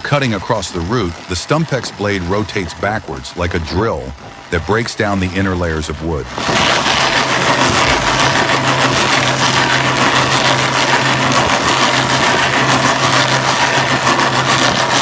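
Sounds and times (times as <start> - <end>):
excavator engine running: 0.0 - 15.0
wood crunching and shredding: 0.0 - 15.0.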